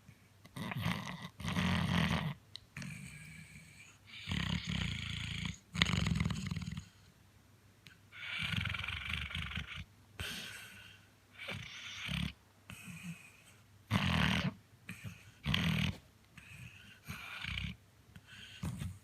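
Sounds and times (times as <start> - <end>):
dog snoring: 0.5 - 7.0, 8.1 - 19.0.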